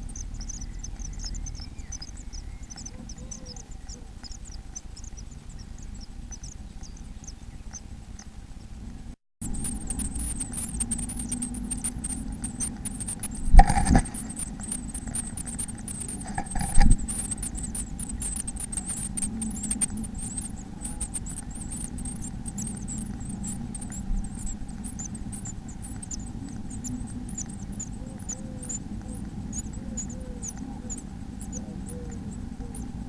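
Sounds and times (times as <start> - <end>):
chicks cheeping: 0.0 - 8.8, 9.4 - 33.0
electrical hum: 0.0 - 33.0.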